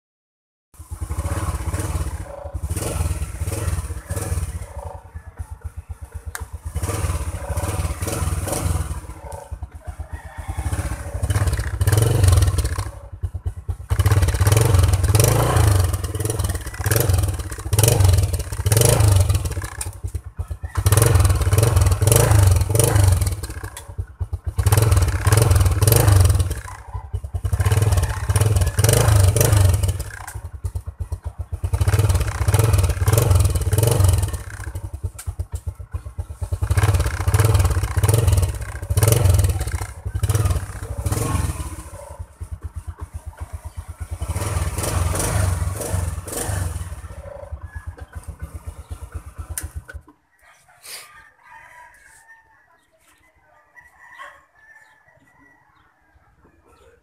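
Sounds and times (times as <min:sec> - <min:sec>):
motorcycle engine running: 0:00.8 - 0:50.2.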